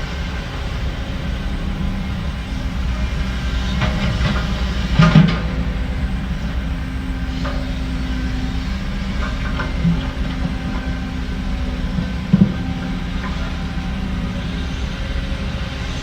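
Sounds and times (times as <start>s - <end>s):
diesel construction machinery running: 0.0s - 16.0s.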